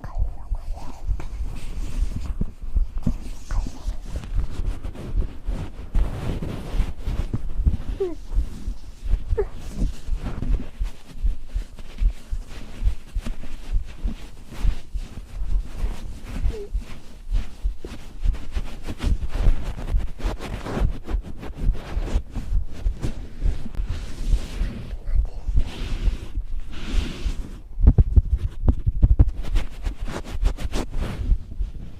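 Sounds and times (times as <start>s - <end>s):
heartbeat thumps: 0.0s - 31.9s
microphone handling rustle: 0.0s - 31.9s.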